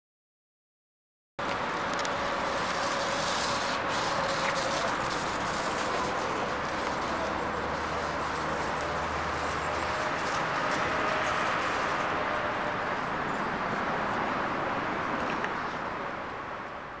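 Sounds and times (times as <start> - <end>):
outdoor background hiss: 1.4 - 17.0.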